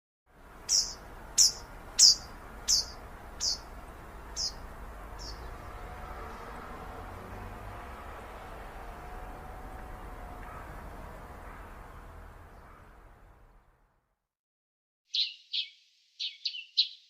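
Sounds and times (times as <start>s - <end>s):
outdoor background hiss: 0.3s - 13.8s, 15.1s - 17.0s
songbird chirping: 0.4s - 13.5s, 15.1s - 17.0s.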